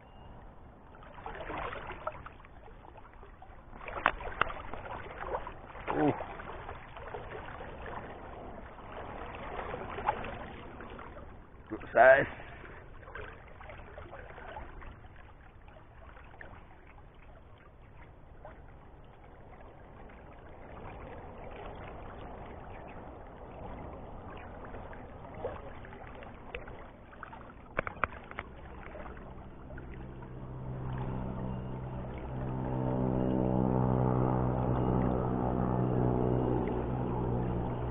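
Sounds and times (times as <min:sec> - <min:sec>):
motor engine hum: 0:00.0 - 0:37.9
river water lapping: 0:00.0 - 0:37.9.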